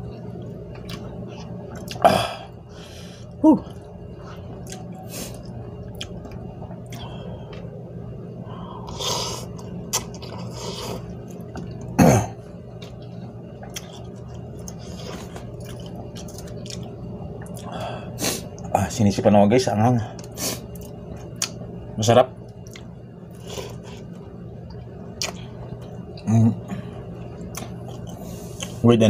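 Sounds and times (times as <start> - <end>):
person chewing: 0.1 - 2.6, 3.6 - 7.7, 8.8 - 12.0, 12.7 - 18.6, 20.2 - 21.6, 22.6 - 28.8.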